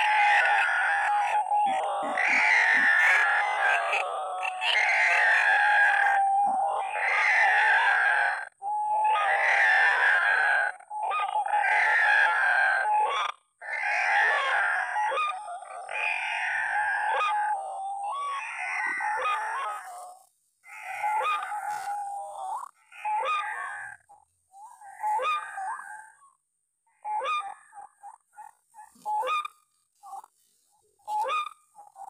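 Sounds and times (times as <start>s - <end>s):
waterhen harsh calls: 0.0s - 6.2s, 9.2s - 26.2s, 27.0s - 30.3s, 31.0s - 32.0s.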